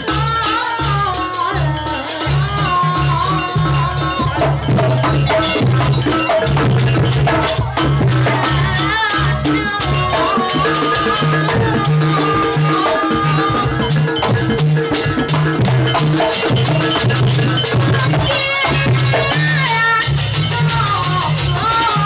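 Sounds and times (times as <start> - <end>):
large hand drum: 0.0 - 22.0
metallophones and gongs struck: 1.6 - 22.0
high sliding melodic line: 2.4 - 22.0.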